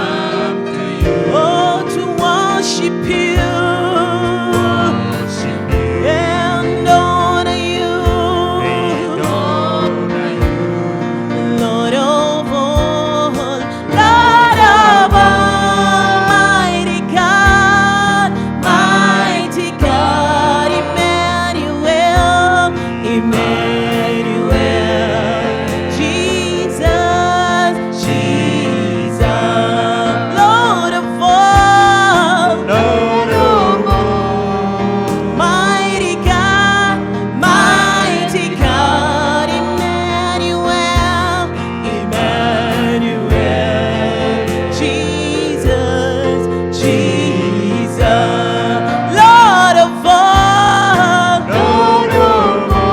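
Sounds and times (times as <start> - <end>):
person singing: 0.0 - 10.7, 11.3 - 52.9
keyboard: 0.0 - 52.9.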